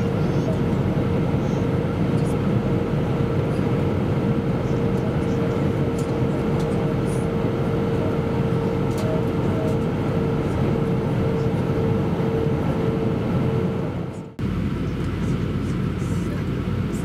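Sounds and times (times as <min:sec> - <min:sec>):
airplane cabin roar: 0:00.0 - 0:17.0.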